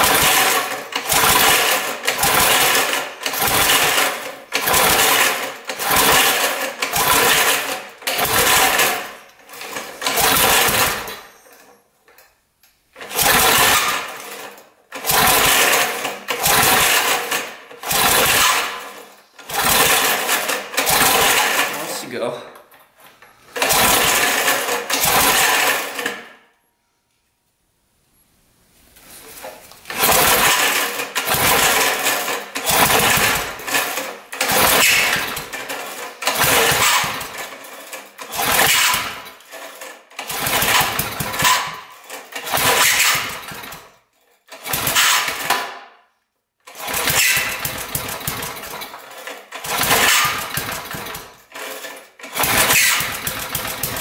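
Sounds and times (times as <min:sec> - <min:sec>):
engine sputtering: 0:00.0 - 0:11.3, 0:13.0 - 0:22.0, 0:23.4 - 0:26.2, 0:29.6 - 0:45.7, 0:46.7 - 0:54.0
recoil starter pulls: 0:00.0 - 0:26.4, 0:29.1 - 0:46.0, 0:46.6 - 0:54.0.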